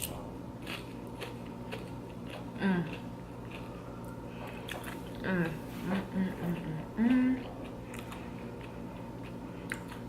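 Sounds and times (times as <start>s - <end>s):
chewing and crunching chips: 0.0s - 10.0s.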